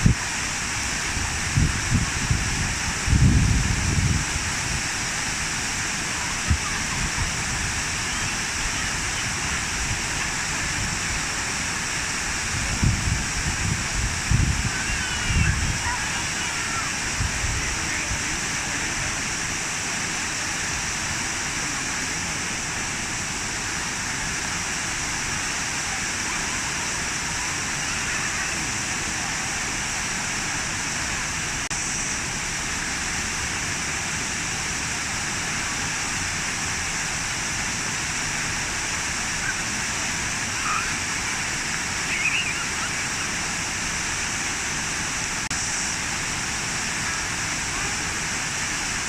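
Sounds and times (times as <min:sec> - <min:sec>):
running water: 0:00.0 - 0:49.0.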